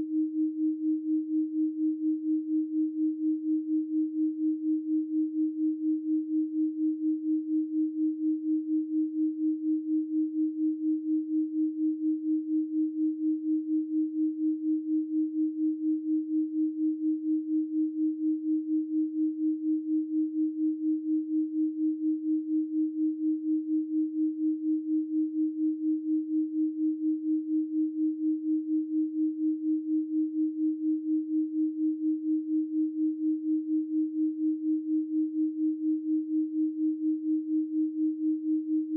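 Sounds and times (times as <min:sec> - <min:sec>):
pulsing sine tone: 0:00.0 - 0:38.9.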